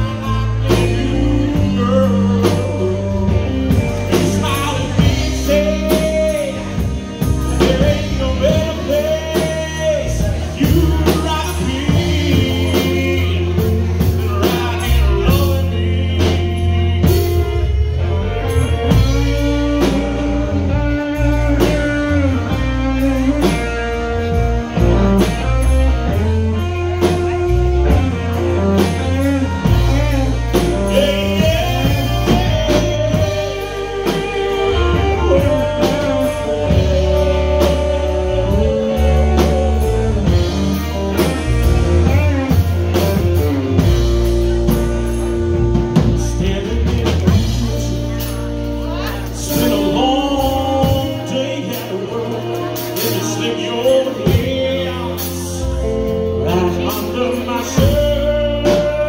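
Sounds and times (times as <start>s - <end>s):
live band playing: 0.0s - 59.0s
man singing: 0.0s - 59.0s.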